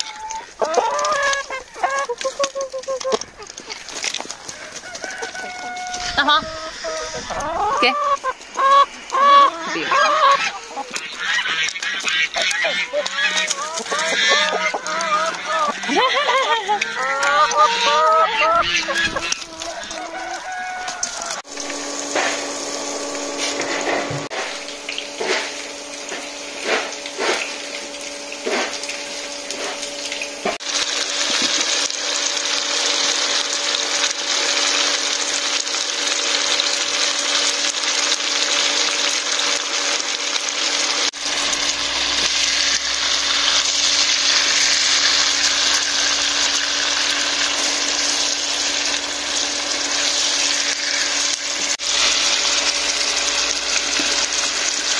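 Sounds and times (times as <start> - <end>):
steady motor hum: 0.0 - 54.9
water running: 0.0 - 54.9.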